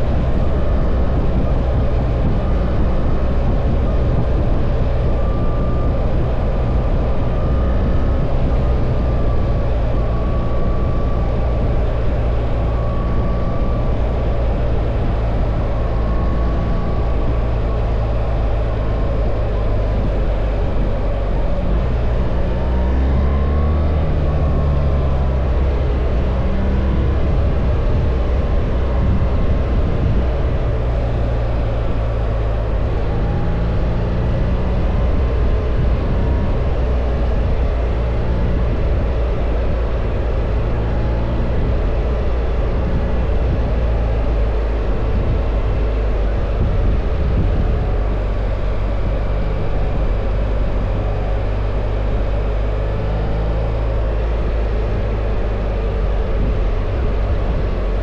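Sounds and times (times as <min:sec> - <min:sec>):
motorcycle engine running: 0:00.0 - 0:58.0
wind rush: 0:00.0 - 0:58.0.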